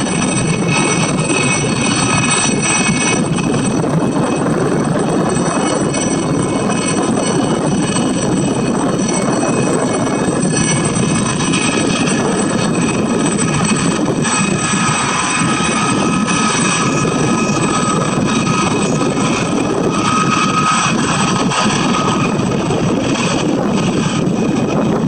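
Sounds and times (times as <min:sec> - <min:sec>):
helicopter flying past: 0:00.0 - 0:25.0
high turbine whine: 0:00.0 - 0:25.0.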